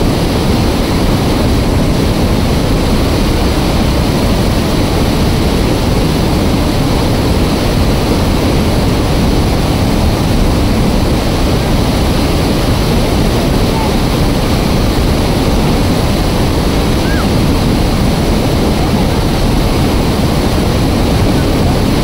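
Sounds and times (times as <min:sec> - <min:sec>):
water rushing through dam spillway: 0:00.0 - 0:22.0.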